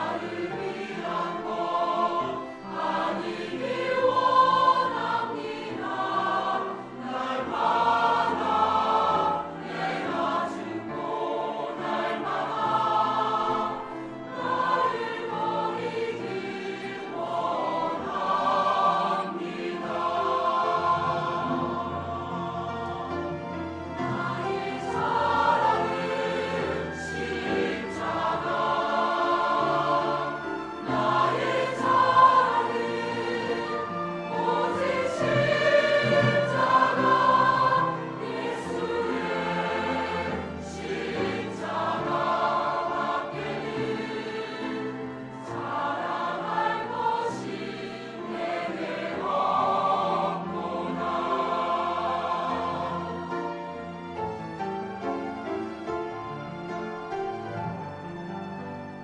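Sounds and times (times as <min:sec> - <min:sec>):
church choir singing a hymn: 0:00.0 - 0:58.7.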